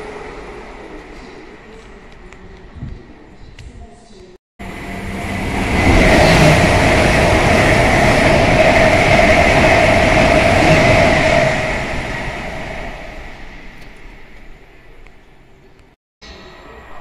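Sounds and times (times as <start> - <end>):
train passing at speed: 0.0 - 3.2, 4.6 - 15.6.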